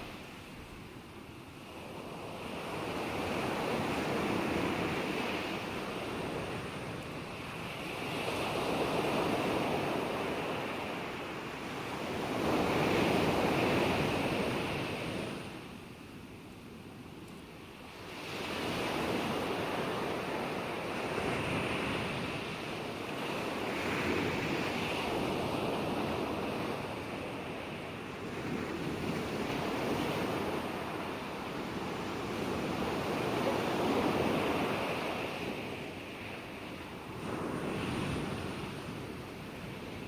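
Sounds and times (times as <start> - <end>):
ocean waves breaking on shore: 0.0 - 40.0.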